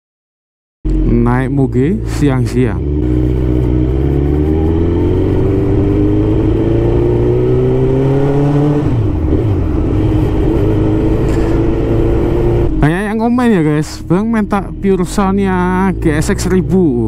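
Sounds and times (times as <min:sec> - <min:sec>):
motorcycle engine accelerating: 0:00.9 - 0:17.0.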